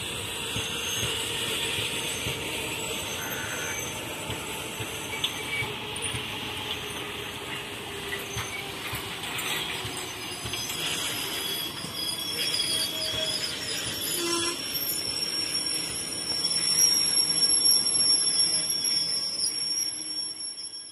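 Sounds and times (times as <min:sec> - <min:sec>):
high-pitched wheel squeal: 0:00.0 - 0:20.9
train rolling on rails: 0:00.0 - 0:20.9.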